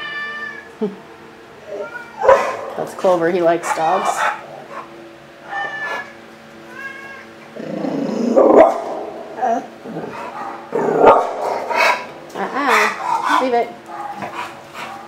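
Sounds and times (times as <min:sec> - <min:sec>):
dog whining: 0:01.6 - 0:02.6, 0:03.6 - 0:15.0.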